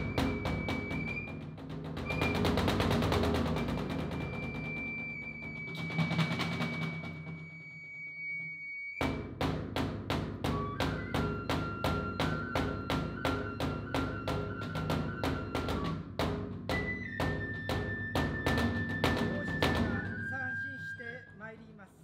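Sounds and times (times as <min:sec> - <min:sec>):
drum beating evenly: 0:00.0 - 0:07.4, 0:09.0 - 0:20.6.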